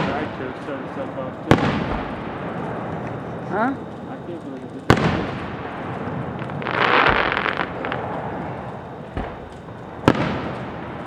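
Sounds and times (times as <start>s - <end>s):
sharp firework bang: 0.0s - 3.7s, 4.8s - 11.0s
dull low booms of shells: 0.0s - 4.1s, 4.8s - 11.0s
fireworks crackling: 0.0s - 11.0s.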